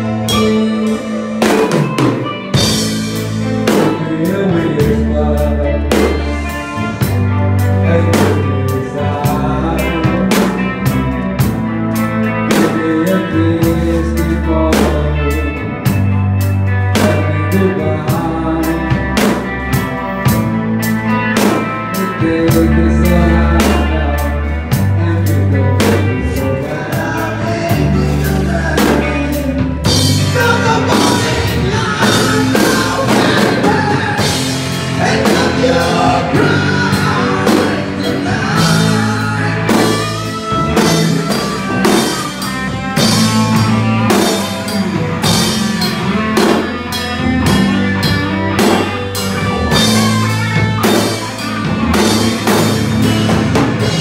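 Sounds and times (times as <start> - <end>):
person singing: 0.0 - 54.0
rock band playing: 0.0 - 54.0.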